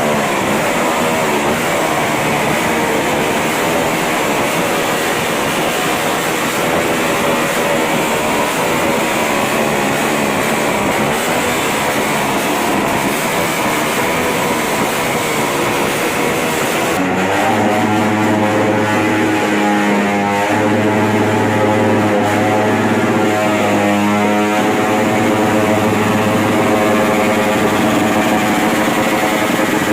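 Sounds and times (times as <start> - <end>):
held tones shifting in pitch: 0.0 - 29.9
motorcycle exhausts roaring: 0.0 - 29.9.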